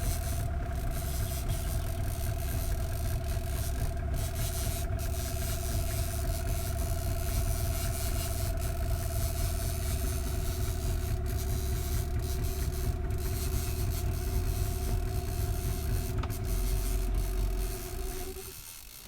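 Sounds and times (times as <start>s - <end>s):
low hum and rumble: 0.0s - 18.6s
fishing reel clicker buzzing: 0.0s - 19.0s.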